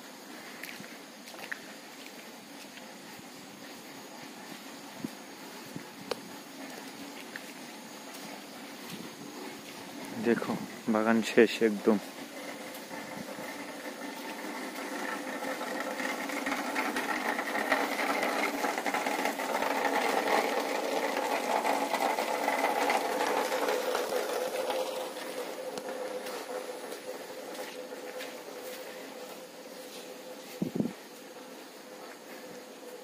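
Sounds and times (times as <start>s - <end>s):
mechanical droning buzz: 0.0s - 33.0s.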